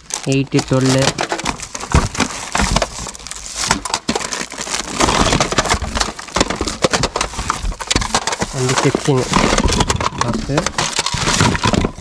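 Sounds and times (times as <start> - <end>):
plastic packaging crinkling: 0.0 - 12.0
plastic parts clicking together: 0.1 - 12.0.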